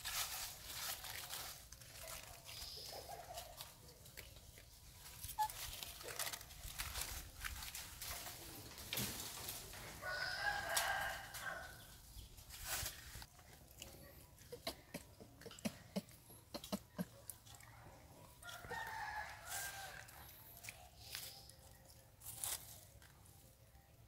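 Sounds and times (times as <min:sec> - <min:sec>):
dry leaves and stones crackling: 0:00.0 - 0:14.7, 0:16.8 - 0:24.0.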